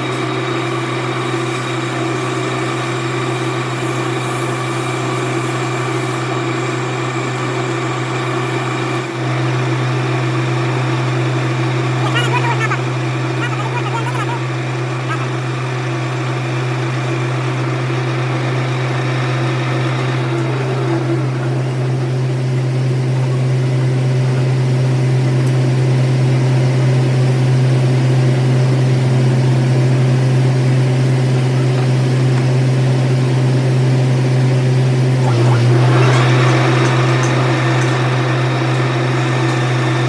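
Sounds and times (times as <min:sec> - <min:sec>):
workshop machine humming: 0:00.0 - 0:40.0.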